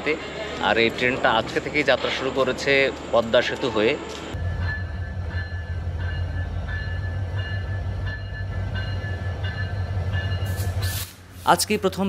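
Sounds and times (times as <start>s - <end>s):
diesel locomotive humming: 0.0s - 12.0s.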